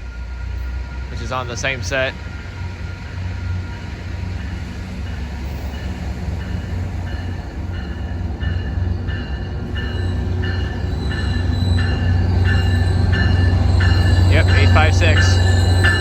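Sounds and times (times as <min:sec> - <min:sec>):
locomotive engine rumble: 0:00.0 - 0:16.0
train bell ringing: 0:00.0 - 0:16.0.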